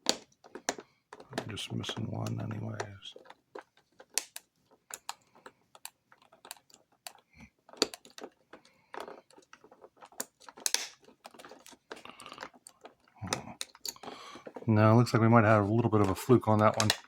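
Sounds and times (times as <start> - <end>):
lock pick scraping in lock: 0.0 - 14.7.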